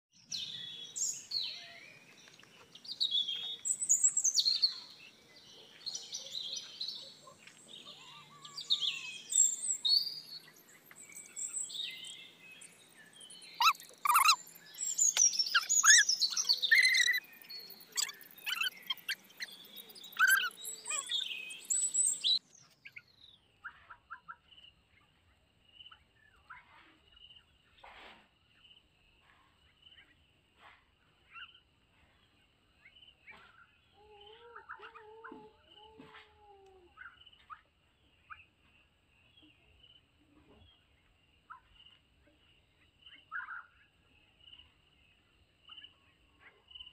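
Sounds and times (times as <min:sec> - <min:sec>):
flock of birds chirping: 0:00.2 - 0:27.8, 0:29.8 - 0:46.9.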